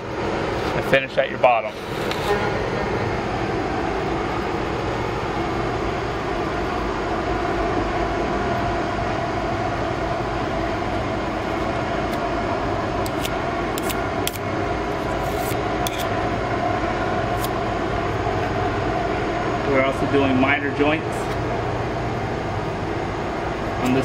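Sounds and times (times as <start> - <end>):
machinery drone: 0.0 - 24.0.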